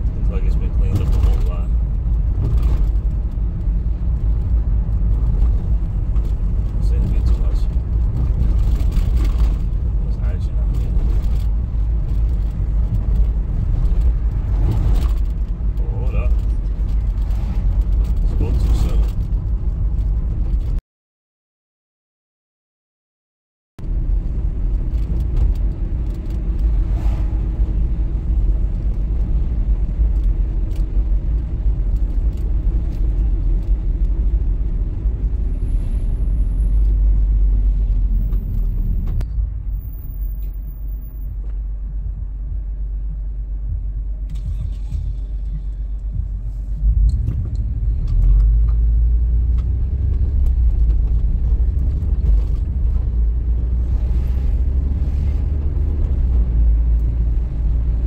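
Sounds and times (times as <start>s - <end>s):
car driving rumble: 0.0s - 20.8s, 23.8s - 58.0s.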